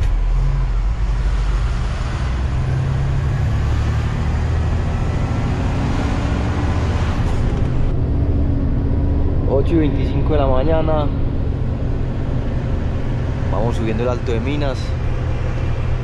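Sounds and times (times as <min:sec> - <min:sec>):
truck diesel engine drone: 0:00.0 - 0:16.0
tyre and road noise: 0:00.0 - 0:16.0.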